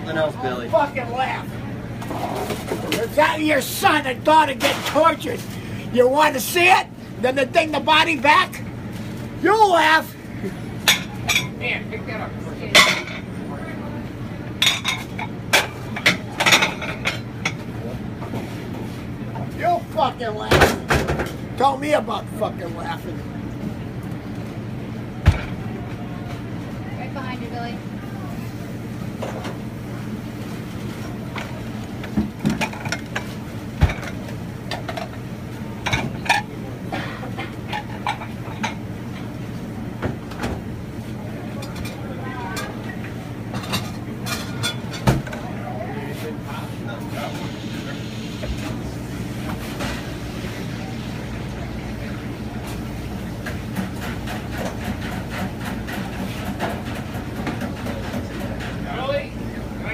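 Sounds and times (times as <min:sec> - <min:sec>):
machinery hum: 0:00.0 - 0:59.9.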